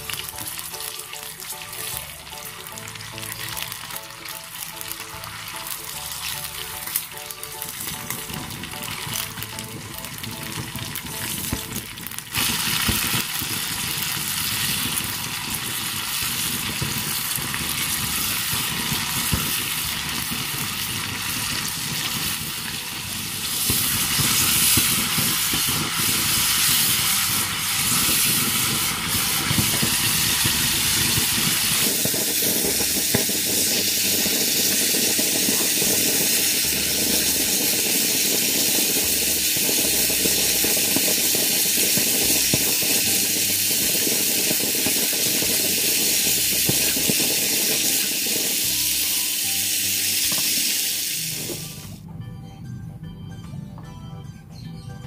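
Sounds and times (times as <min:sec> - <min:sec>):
deep-frying sizzle: 0:00.0 - 0:52.0.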